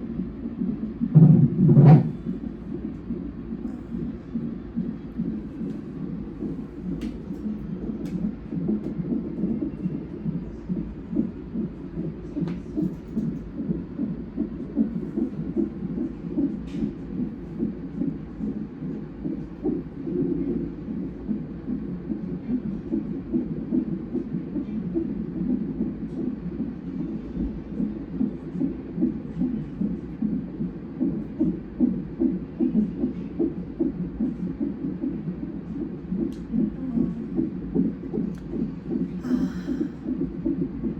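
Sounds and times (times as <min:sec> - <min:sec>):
fetal heartbeat whooshing pulses: 0:00.0 - 0:40.9.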